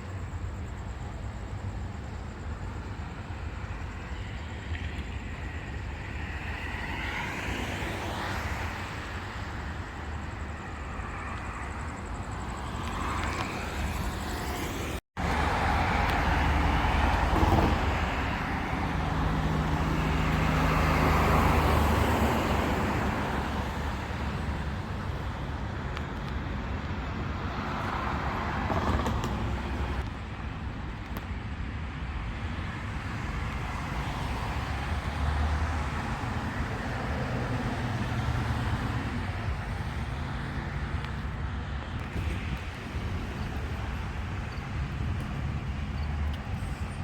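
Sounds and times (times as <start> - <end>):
cars passing: 2.4 - 47.0.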